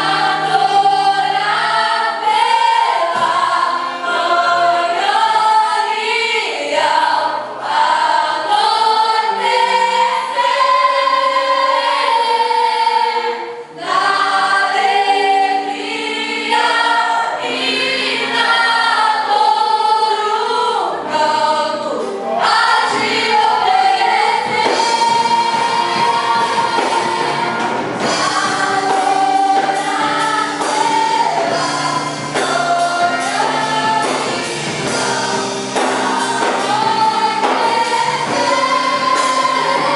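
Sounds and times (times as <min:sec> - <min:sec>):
choir singing gospel song: 0:00.0 - 0:39.9
instrumental backing music: 0:00.0 - 0:39.9.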